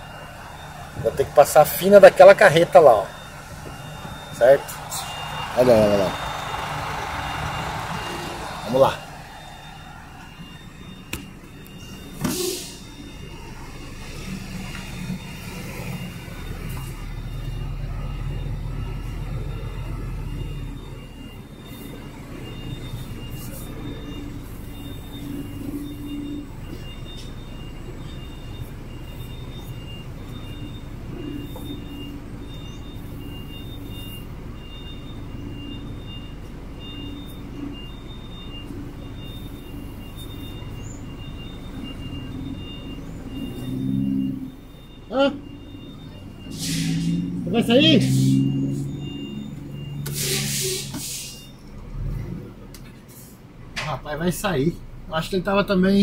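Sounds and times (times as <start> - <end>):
reverse alarm beeping: 0.0 - 52.1
diesel engine running: 0.0 - 52.4.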